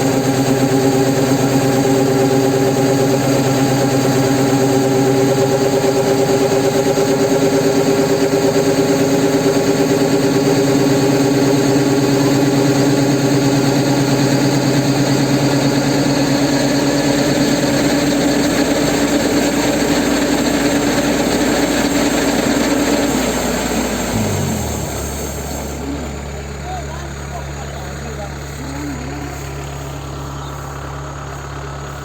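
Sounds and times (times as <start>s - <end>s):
harvester engine running: 0.0s - 32.0s.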